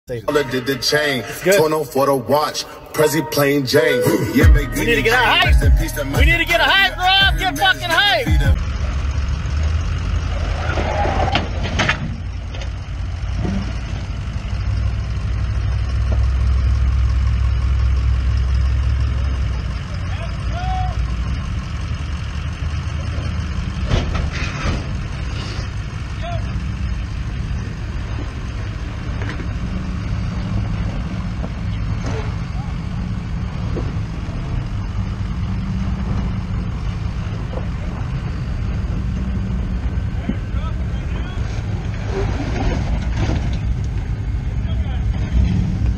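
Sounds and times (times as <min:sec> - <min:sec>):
truck engine running at low speed: 0:03.7 - 0:45.9.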